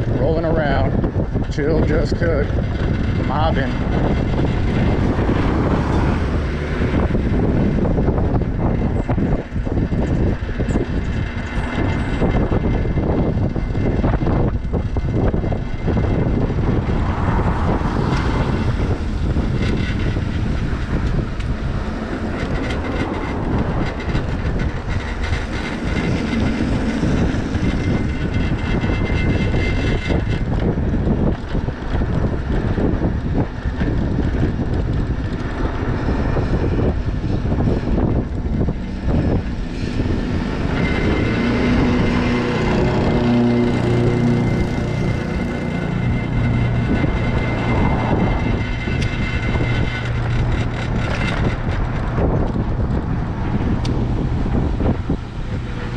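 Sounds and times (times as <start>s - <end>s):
road noise rumble: 0.0s - 55.9s
wind buffeting microphone: 0.0s - 55.9s.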